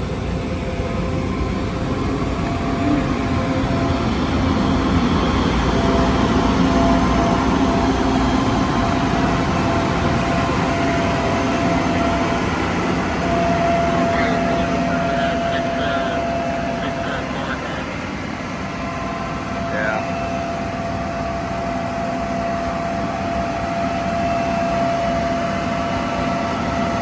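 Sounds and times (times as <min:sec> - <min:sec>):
farm machine diesel engine: 0:00.0 - 0:27.0.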